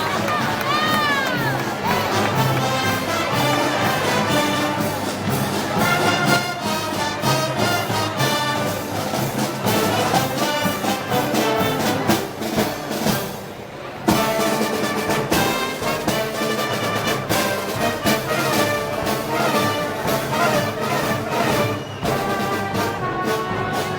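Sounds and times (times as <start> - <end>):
brass band playing march: 0.0 - 23.9.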